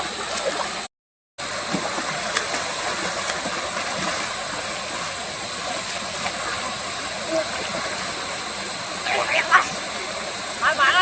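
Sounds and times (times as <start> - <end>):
water rushing and splashing: 0.0 - 11.0.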